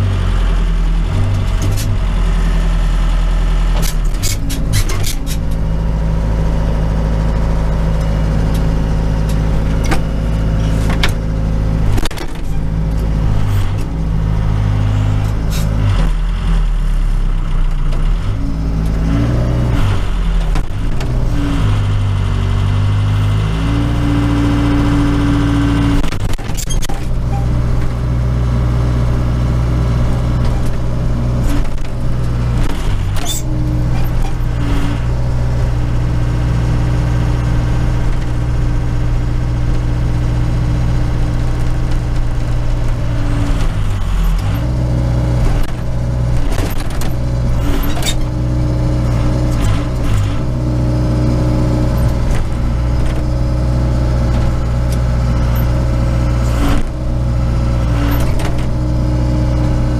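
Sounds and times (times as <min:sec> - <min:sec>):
backhoe diesel engine running: 0:00.0 - 0:59.9.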